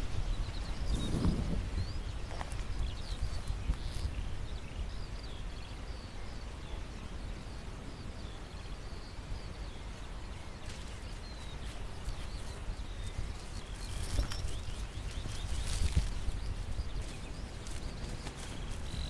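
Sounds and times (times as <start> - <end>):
horses walking in grass: 0.0 - 5.5, 8.9 - 19.0
small birds chirping: 0.0 - 19.0
wind rumble on microphone: 0.0 - 19.0.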